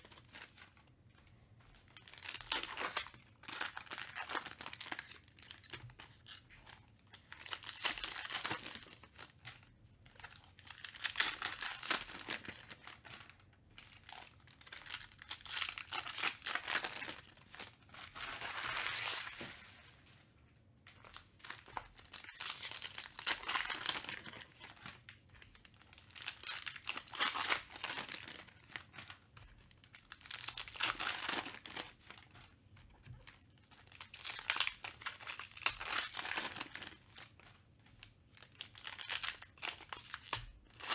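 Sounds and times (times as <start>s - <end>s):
foil wrappers crinkling and tearing: 1.9s - 20.1s, 21.0s - 40.9s.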